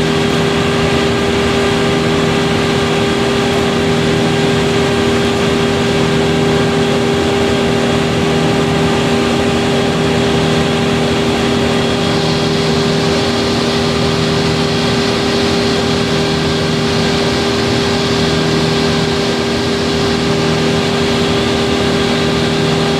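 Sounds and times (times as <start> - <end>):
heavy engine droning: 0.0 - 22.9.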